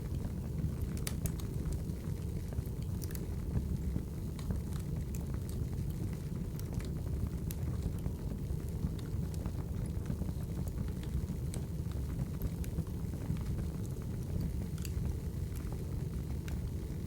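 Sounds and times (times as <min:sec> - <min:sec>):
low rumble of flames: 0:00.0 - 0:17.0
logs crackling and popping: 0:00.1 - 0:17.0.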